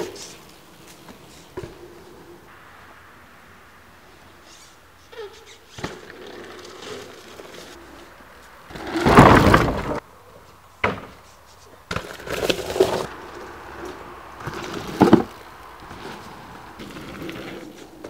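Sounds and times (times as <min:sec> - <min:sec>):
bike tyres rattling on wooden boards: 0:00.0 - 0:02.4, 0:05.2 - 0:10.0, 0:10.8 - 0:18.0.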